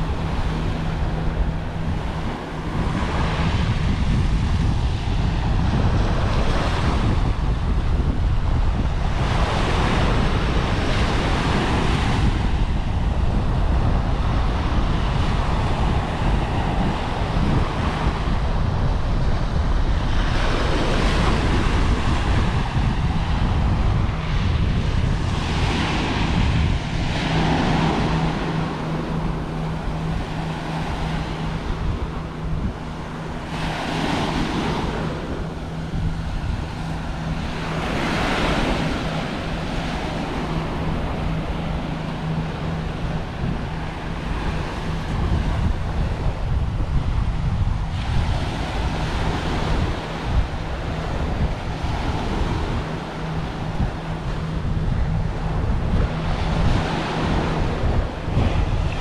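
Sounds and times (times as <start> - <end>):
waves breaking on sandy shore: 0.0 - 59.0
wind buffeting microphone: 0.0 - 59.0.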